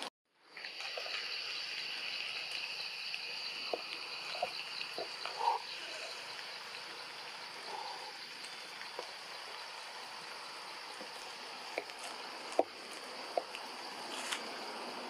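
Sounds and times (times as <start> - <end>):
forest background noise: 0.0 - 15.0.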